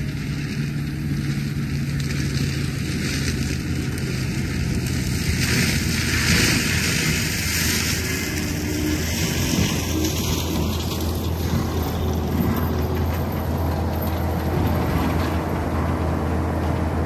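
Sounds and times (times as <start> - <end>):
machine engine under load: 0.0 - 17.0
mulcher drum shredding vegetation: 0.0 - 17.0.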